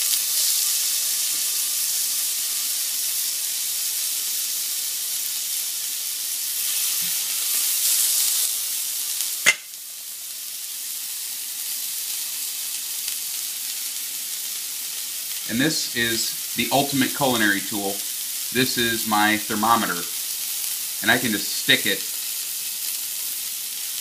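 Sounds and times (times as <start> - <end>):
steak sizzling in a skillet: 0.0 - 24.0.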